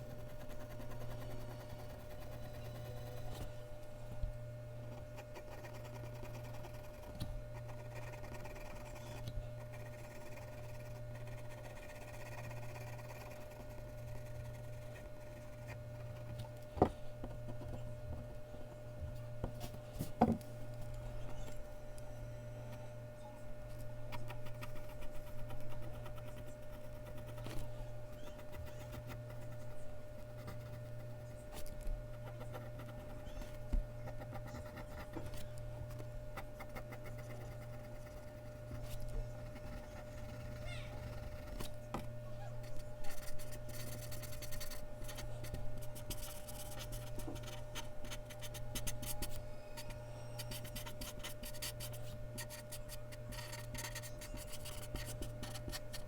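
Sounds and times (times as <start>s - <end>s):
pencil scratching on paper: 0.0s - 3.5s, 4.9s - 16.4s, 24.1s - 41.8s, 42.7s - 56.0s
low electrical hum: 0.0s - 56.0s.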